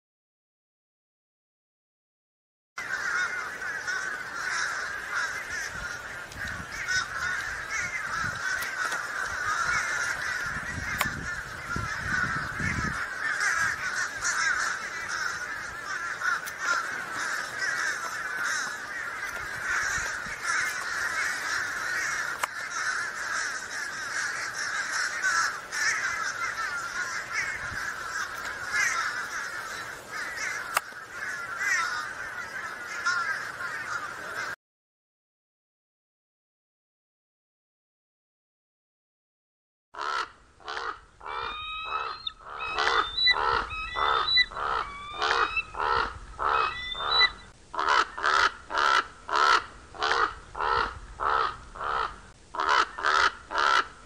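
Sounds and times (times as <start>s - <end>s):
crows cawing: 2.8s - 34.6s, 40.0s - 54.0s.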